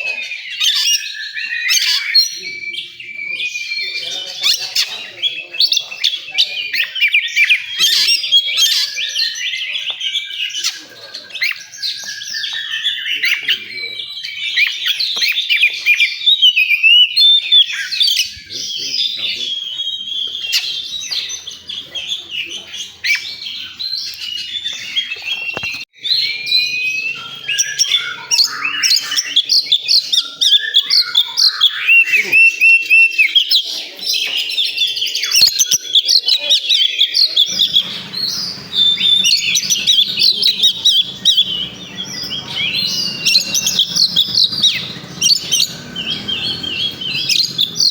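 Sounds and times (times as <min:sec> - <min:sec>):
bird singing whistles and chirps: 0:00.0 - 0:47.9.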